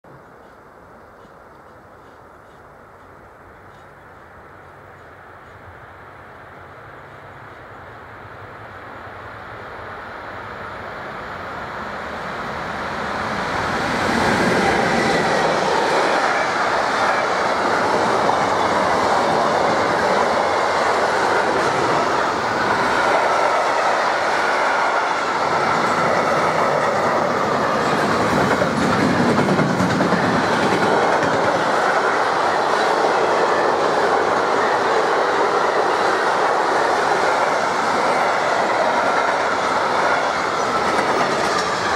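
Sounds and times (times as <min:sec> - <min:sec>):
freight train rumble: 0:00.1 - 0:41.9.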